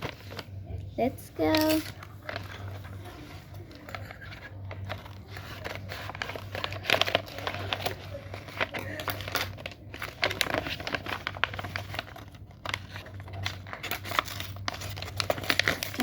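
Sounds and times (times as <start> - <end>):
packaging crinkling and rustling: 0.0 - 0.8, 1.4 - 16.0.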